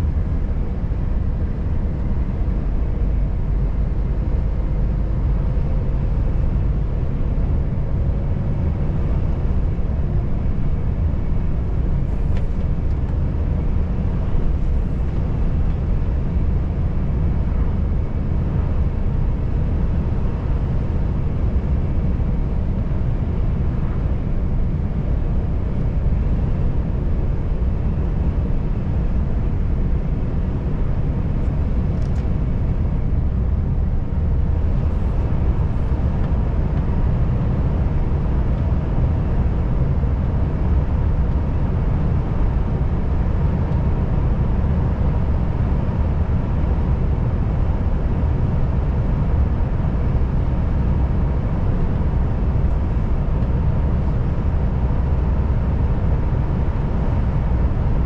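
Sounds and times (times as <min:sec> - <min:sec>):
faint steady whine: 0:00.0 - 0:58.0
road and tyre noise: 0:00.0 - 0:58.0
truck diesel engine drone: 0:00.0 - 0:58.0.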